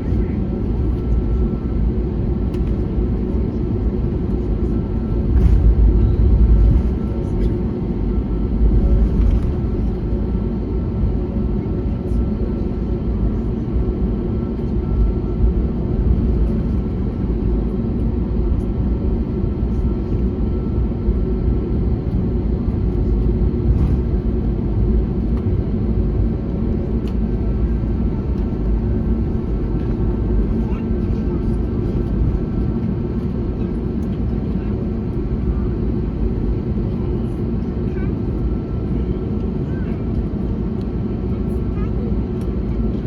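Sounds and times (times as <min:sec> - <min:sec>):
jet engines and airflow rumble: 0:00.0 - 0:43.0.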